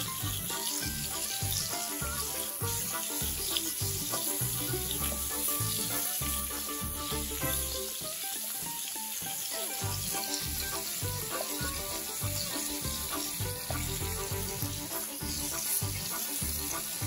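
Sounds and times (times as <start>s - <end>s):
sausages sizzling on a griddle: 0.0s - 17.0s.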